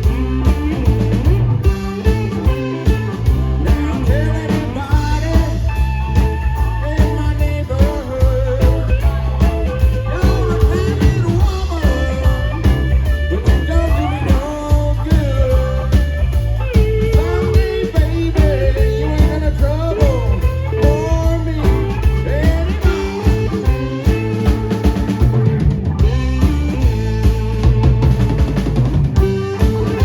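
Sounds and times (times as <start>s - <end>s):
bass guitar: 0.0s - 30.0s
electric guitar lead: 0.0s - 30.0s
steady drum beat: 0.0s - 30.0s.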